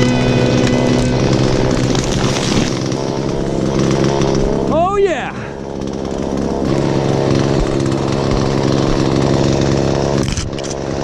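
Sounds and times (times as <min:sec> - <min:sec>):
chainsaw engine running: 0:00.0 - 0:11.0.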